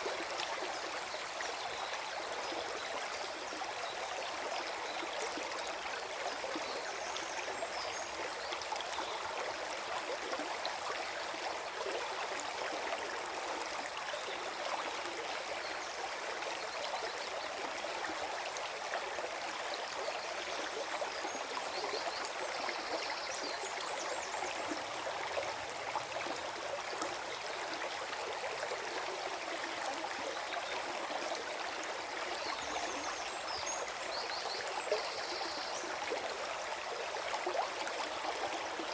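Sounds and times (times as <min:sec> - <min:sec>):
stream flowing and gurgling: 0:00.0 - 0:38.9.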